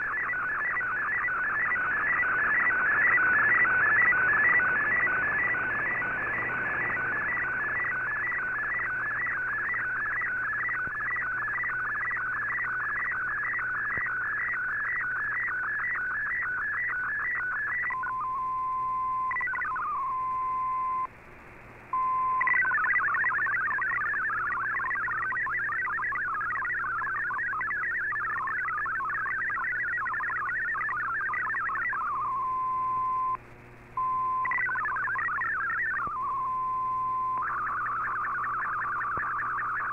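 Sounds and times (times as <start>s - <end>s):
rapidly hopping tones: 0.0s - 21.1s, 22.0s - 39.9s
warbling digital data tones: 0.0s - 21.1s, 22.0s - 33.4s, 34.0s - 39.9s.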